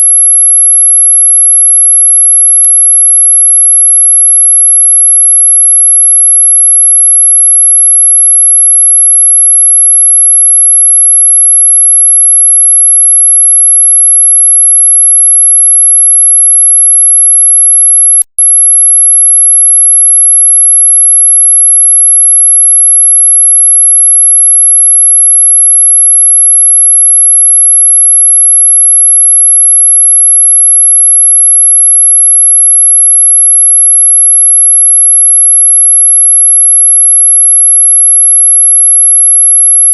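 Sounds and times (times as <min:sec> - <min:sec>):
high-pitched electronic sine tone: 0:00.0 - 0:39.9.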